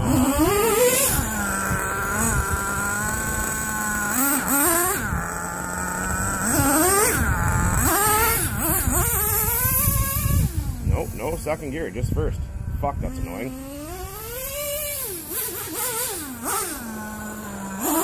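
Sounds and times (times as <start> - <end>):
nitro engine revving: 0.0 - 18.0.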